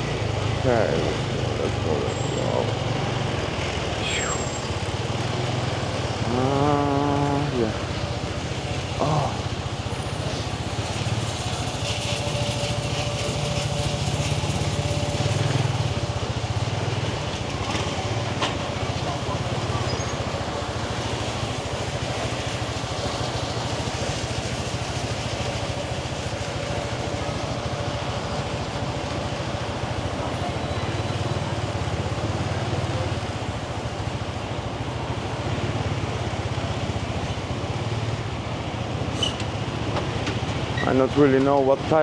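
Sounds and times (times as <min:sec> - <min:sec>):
road and traffic noise: 0:00.0 - 0:42.0.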